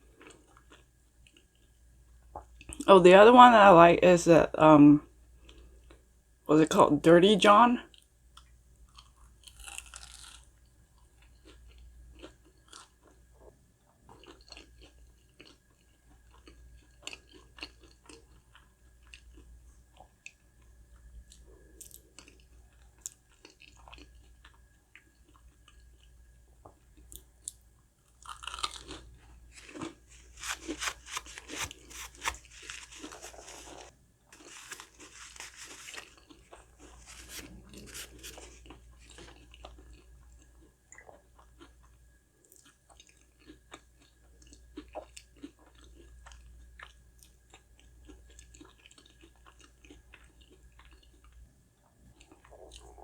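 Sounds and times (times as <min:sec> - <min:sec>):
chewing crispy fried food: 0:00.0 - 0:02.8, 0:07.8 - 0:53.0.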